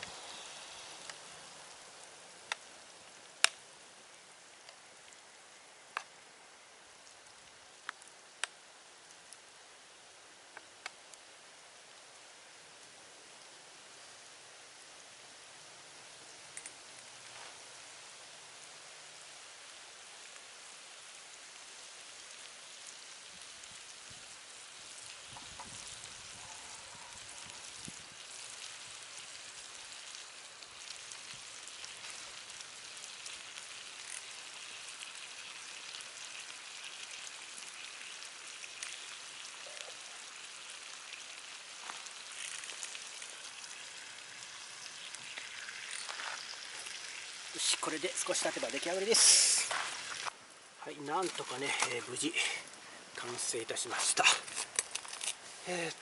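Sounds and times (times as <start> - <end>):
campfire crackling: 0.0 - 56.0
food sizzling in a pan: 0.0 - 56.0.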